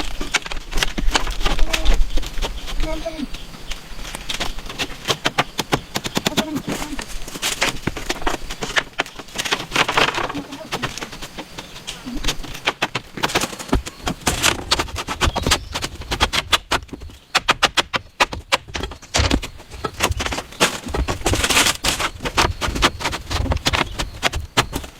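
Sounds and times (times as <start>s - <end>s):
sharp knocks and clicks: 4.1s - 24.9s.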